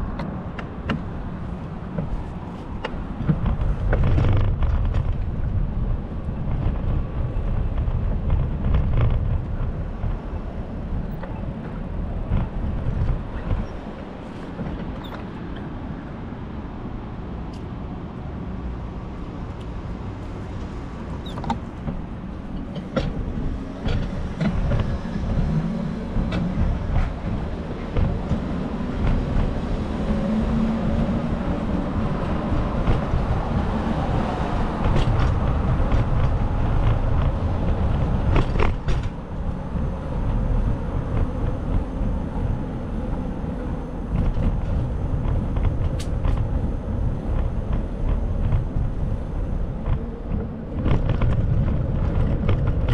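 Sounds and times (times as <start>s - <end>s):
city traffic noise: 0.0s - 52.9s
passing vehicle hum: 0.0s - 52.9s
wind buffeting microphone: 0.0s - 52.9s.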